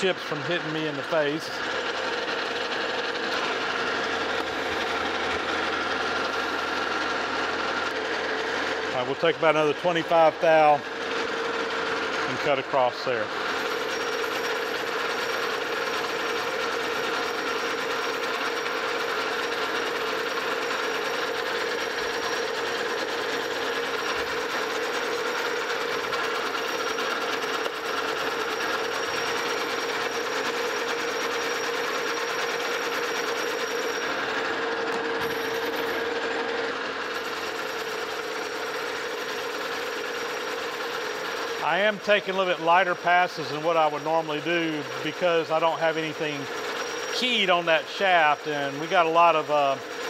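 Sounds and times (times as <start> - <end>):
lathe humming: 0.0 - 50.0.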